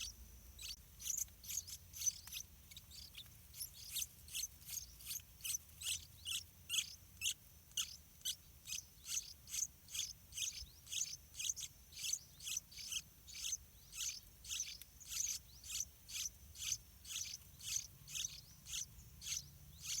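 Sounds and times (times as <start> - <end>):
nestlings begging calls: 0.0 - 20.0.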